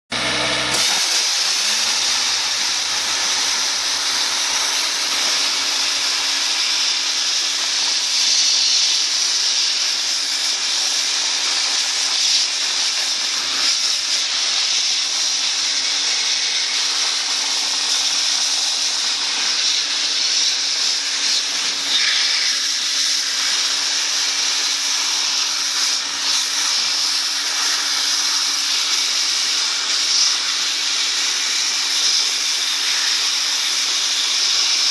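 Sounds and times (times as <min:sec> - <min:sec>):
dry ice blaster hissing: 0:00.1 - 0:34.9.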